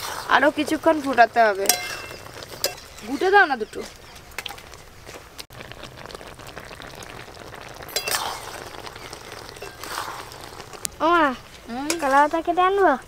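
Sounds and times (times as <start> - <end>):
syrup bubbling and popping: 0.0 - 13.0.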